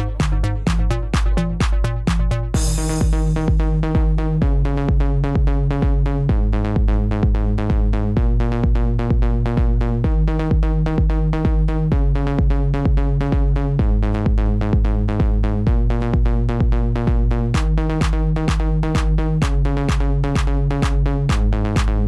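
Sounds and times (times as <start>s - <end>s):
electronic dance music: 0.0s - 22.0s.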